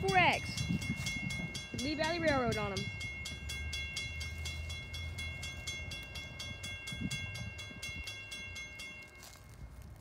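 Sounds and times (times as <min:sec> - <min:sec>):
crossing bell ringing: 0:00.0 - 0:09.8.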